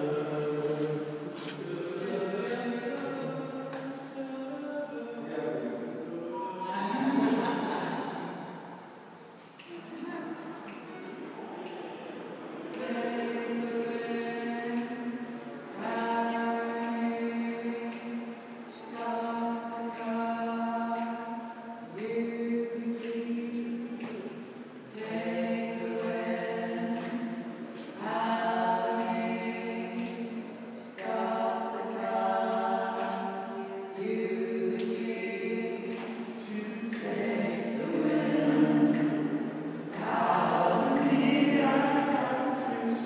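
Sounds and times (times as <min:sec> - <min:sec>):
choir singing a cappella: 0:00.0 - 0:09.2, 0:10.0 - 0:43.0.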